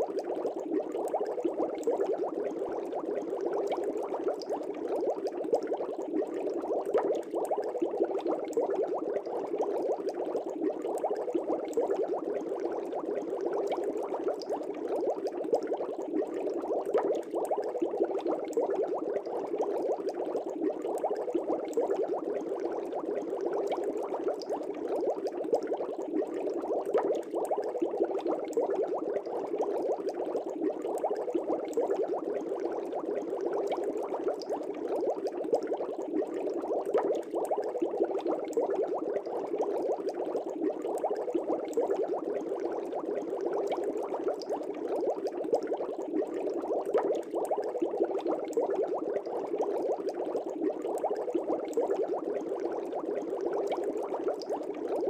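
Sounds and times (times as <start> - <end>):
aquarium air bubbling: 0.0 - 55.0.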